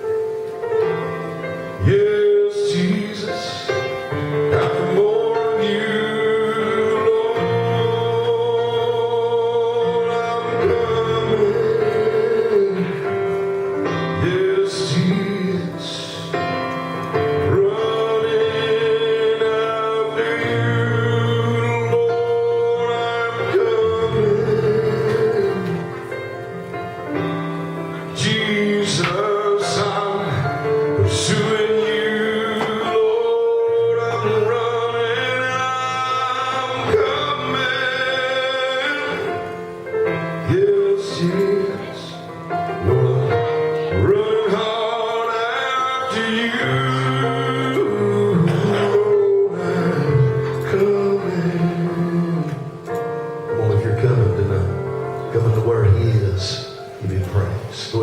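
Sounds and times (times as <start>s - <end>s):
gospel backing track: 0.0s - 58.0s
man singing: 0.0s - 58.0s.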